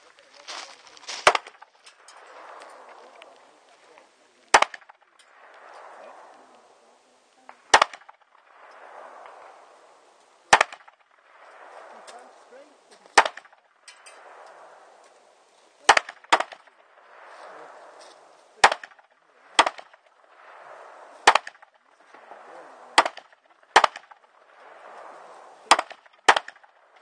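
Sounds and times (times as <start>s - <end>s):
gunshots: 1.1s - 3.6s, 4.4s - 6.8s, 7.4s - 15.2s, 15.8s - 27.0s.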